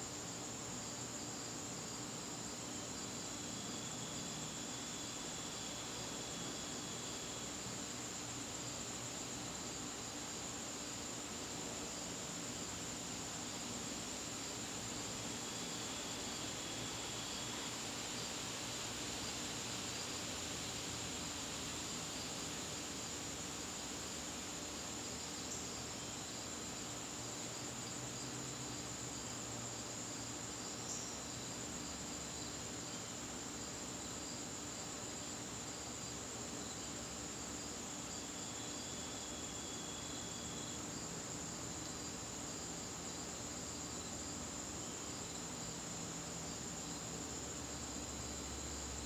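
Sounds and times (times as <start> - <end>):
crickets trilling: 0.0 - 49.0.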